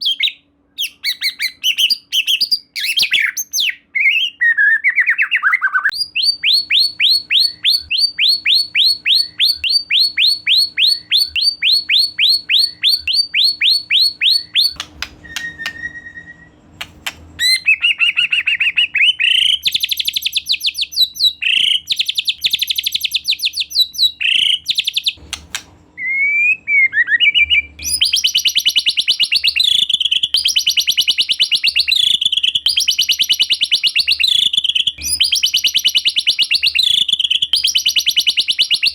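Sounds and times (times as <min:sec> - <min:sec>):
bird whistling and trilling: 0:00.0 - 0:38.9.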